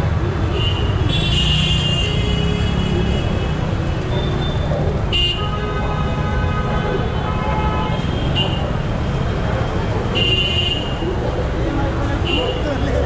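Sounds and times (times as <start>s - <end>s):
cars and motorbikes passing: 0.0s - 13.0s.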